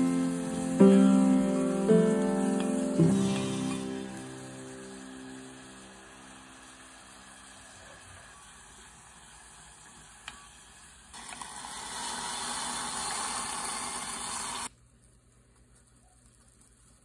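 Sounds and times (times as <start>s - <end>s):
food sizzling in a pot: 0.0s - 14.7s
water poured into hot pot hissing: 0.0s - 14.7s.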